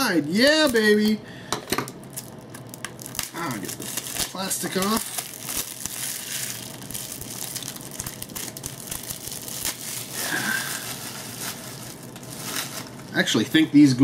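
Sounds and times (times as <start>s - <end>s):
plastic wrap tearing and crinkling: 0.0s - 1.2s, 2.0s - 13.9s.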